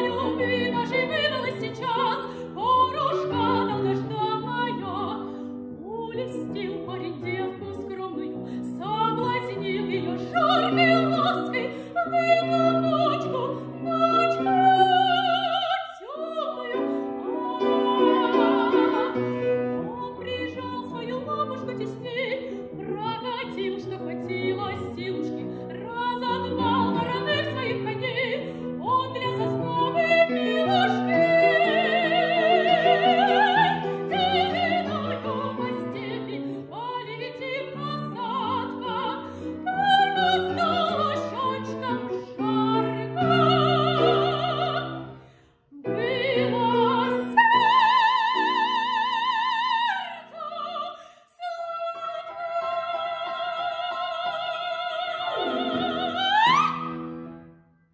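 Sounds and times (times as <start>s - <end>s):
operatic female voice singing: 0.0s - 45.2s, 45.8s - 56.8s
grand piano: 0.0s - 57.9s.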